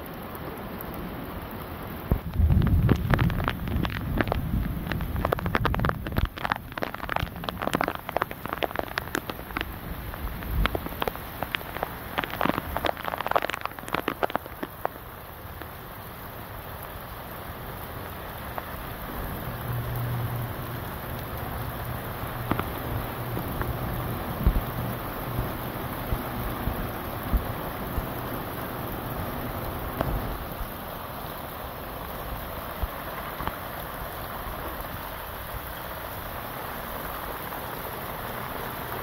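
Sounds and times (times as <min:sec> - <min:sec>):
heavy rain: 0:00.0 - 0:39.0
raindrops tapping close by: 0:00.0 - 0:39.0.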